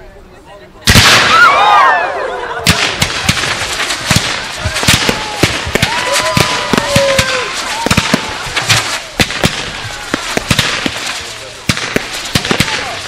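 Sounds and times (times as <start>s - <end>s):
fireworks cracks and bangs: 0.9s - 1.7s, 2.6s - 13.0s.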